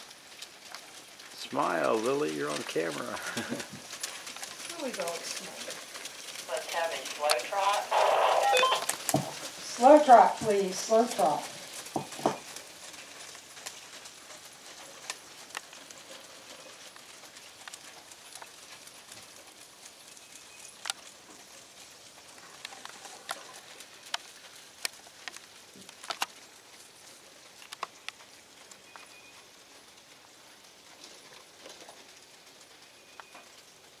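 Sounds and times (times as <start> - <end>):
hoofbeats of trotting ponies: 0.0 - 34.0.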